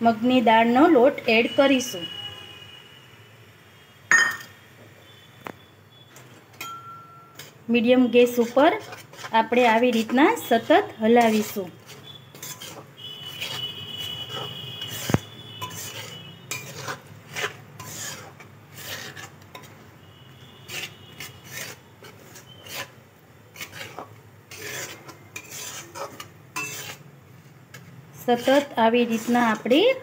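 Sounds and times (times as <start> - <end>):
metal spatula scraping: 5.9 - 30.0.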